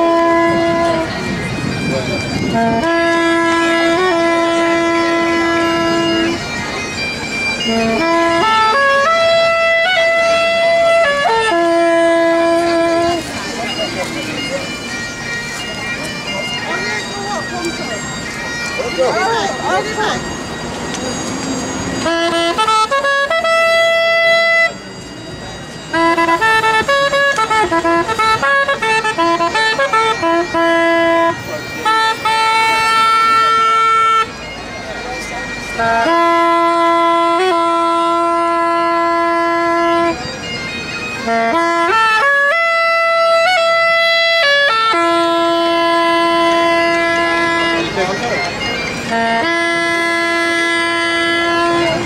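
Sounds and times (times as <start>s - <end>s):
street noise: 0.0s - 52.0s
wind instrument playing a tune: 0.0s - 52.0s.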